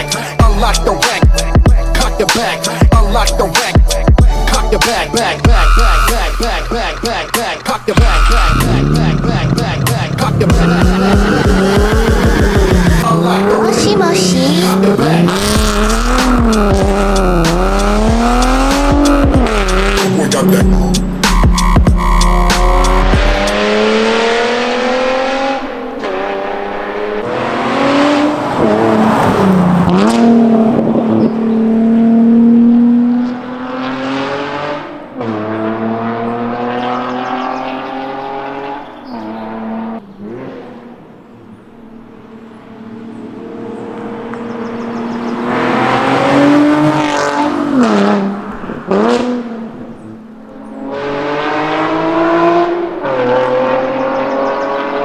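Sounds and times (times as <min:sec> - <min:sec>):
car exhaust accelerating hard: 0:00.0 - 0:55.0.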